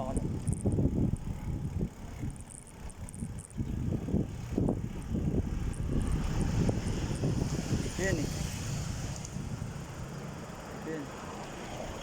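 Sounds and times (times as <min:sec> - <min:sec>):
wind rumble on microphone: 0:00.0 - 0:10.7
road noise: 0:00.0 - 0:12.0.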